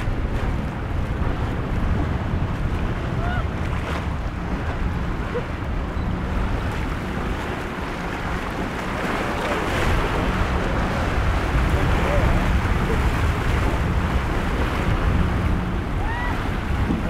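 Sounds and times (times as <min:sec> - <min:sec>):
choppy water and surf: 0:00.0 - 0:17.0
wind buffeting microphone: 0:00.0 - 0:17.0.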